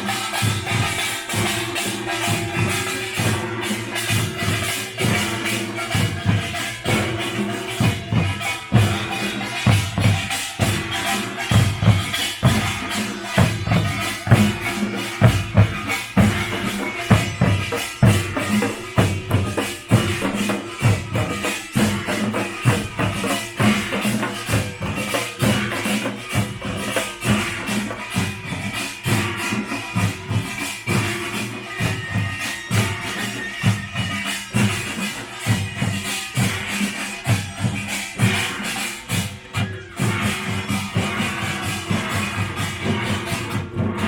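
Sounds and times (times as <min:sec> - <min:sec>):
drums beating: 0:00.0 - 0:44.0
metallic gongs clanging: 0:00.0 - 0:44.0.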